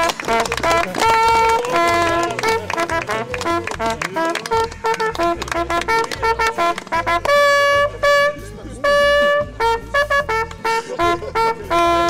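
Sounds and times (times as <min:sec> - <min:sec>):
hunting horns playing fanfare: 0:00.0 - 0:12.0.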